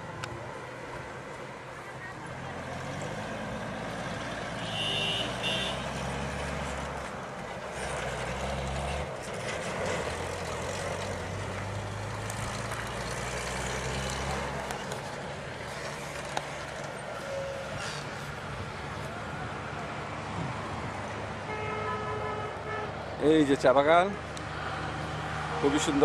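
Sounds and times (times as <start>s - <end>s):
truck and rickshaw engines running: 0.0s - 26.0s.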